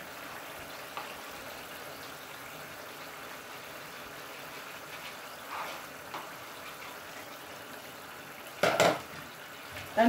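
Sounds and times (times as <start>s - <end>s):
sauce bubbling in frying pan: 0.0s - 10.0s.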